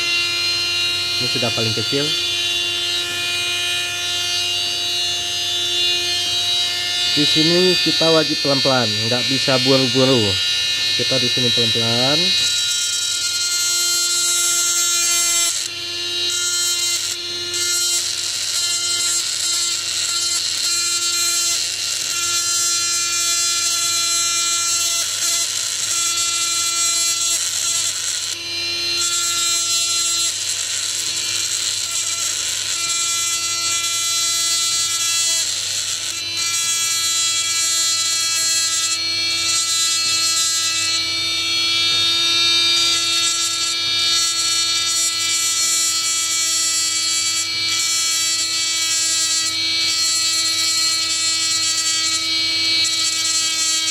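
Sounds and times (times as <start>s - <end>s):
rotary tool high-pitched whine: 0.0s - 53.9s.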